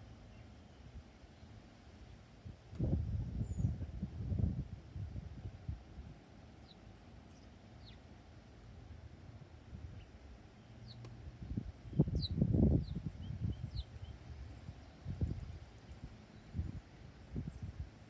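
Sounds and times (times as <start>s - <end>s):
songbirds chirping: 0.0s - 4.0s, 5.8s - 18.0s.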